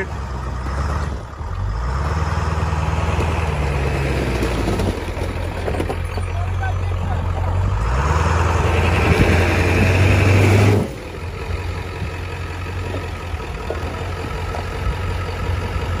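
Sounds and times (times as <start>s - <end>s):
pickup truck engine revving: 0.0s - 16.0s.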